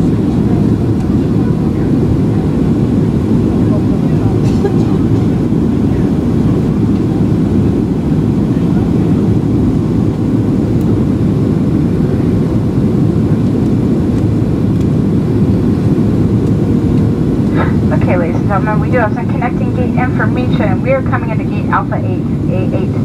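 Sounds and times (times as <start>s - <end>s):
engines and airflow rushing: 0.0s - 23.0s
faint steady hum: 0.0s - 23.0s.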